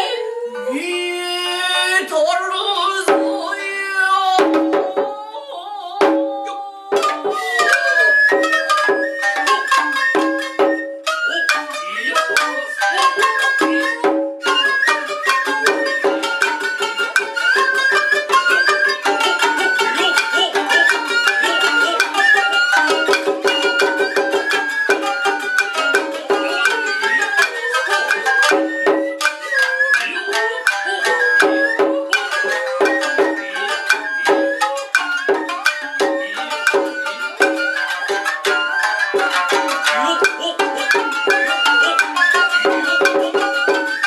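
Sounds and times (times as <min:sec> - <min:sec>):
bamboo flute melody: 0:00.0 - 0:44.0
plucked lute: 0:04.4 - 0:44.0.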